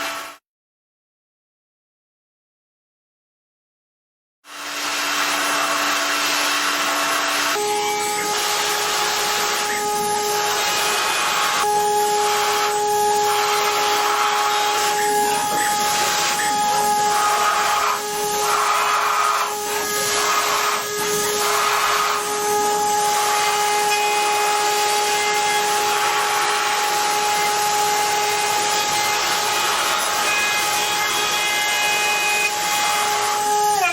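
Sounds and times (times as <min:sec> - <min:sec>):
machine cutting noise: 0:04.5 - 0:33.9
spindle high whine: 0:04.6 - 0:33.9.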